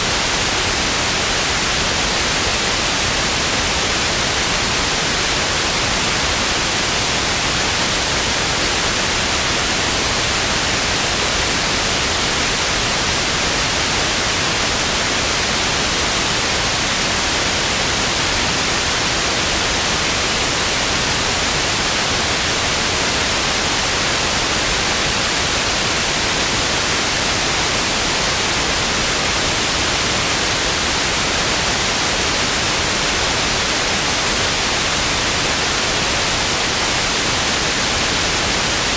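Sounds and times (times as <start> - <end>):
tv static hiss: 0.0 - 38.9.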